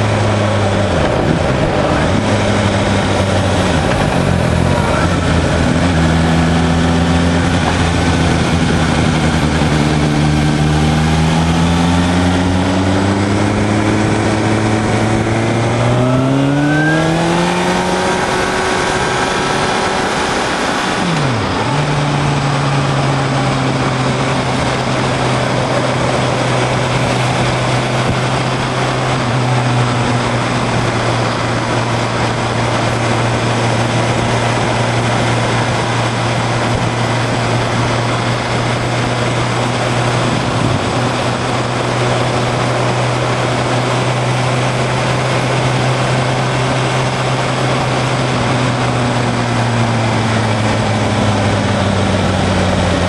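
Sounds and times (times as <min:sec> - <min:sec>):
vehicle engine running: 0:00.0 - 0:53.0
wind and road noise: 0:00.0 - 0:53.0.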